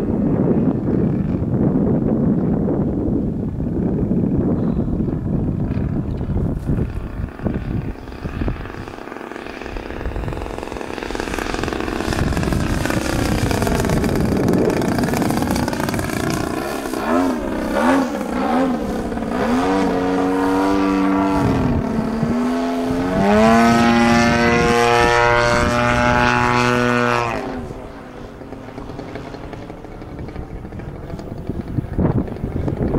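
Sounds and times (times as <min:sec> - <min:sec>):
model plane engine: 0:00.0 - 0:32.9
wind noise on microphone: 0:00.0 - 0:32.9.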